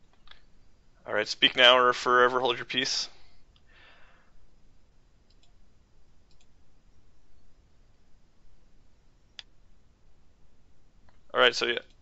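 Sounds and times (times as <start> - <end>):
low steady hiss: 0.0 - 12.0.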